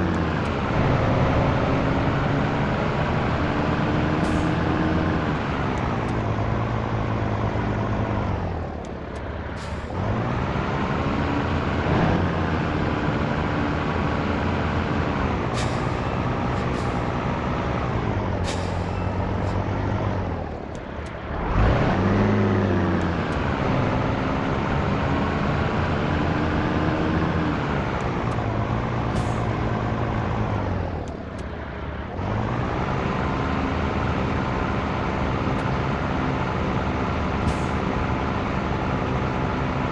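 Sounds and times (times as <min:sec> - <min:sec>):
truck diesel engine accelerating: 0:00.0 - 0:39.9.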